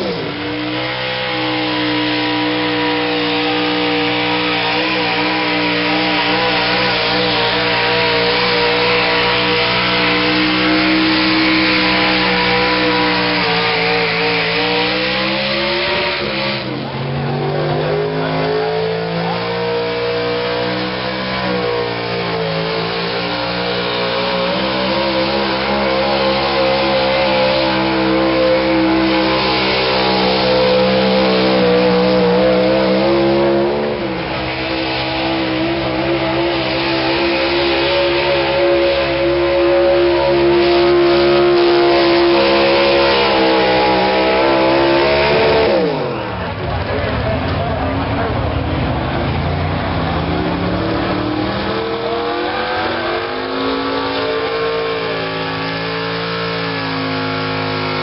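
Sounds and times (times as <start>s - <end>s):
truck engine running hard: 0.0s - 58.0s.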